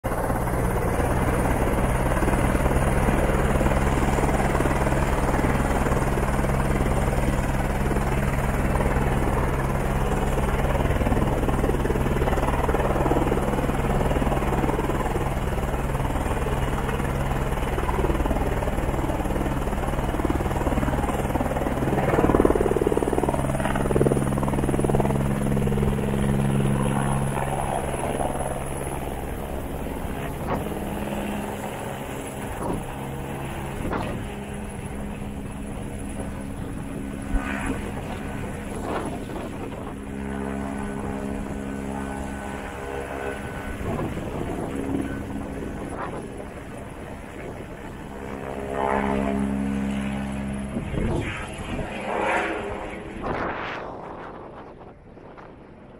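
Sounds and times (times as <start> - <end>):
helicopter rotor beat: 0.0 - 55.9
turbine noise: 0.1 - 55.9.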